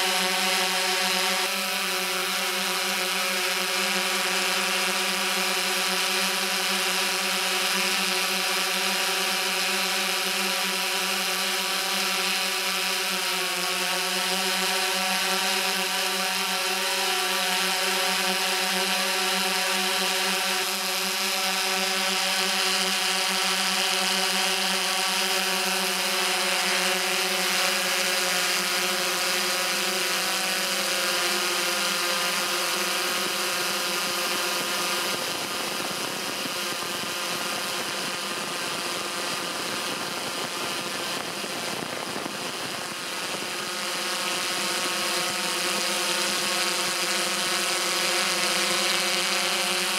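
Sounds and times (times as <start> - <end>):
drone propellers buzzing: 0.0 - 49.9.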